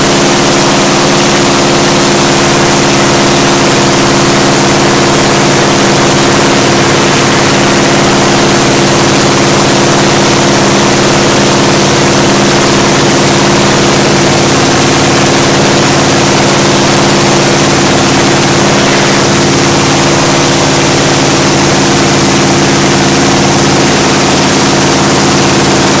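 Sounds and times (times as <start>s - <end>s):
engine running loud: 0.0s - 26.0s.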